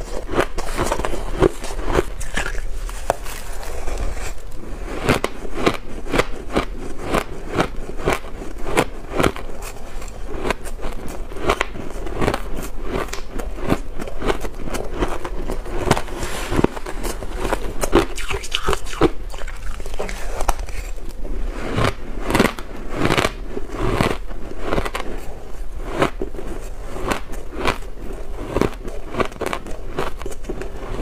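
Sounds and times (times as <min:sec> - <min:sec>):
ice crunching as chewed: 0:00.0 - 0:31.0.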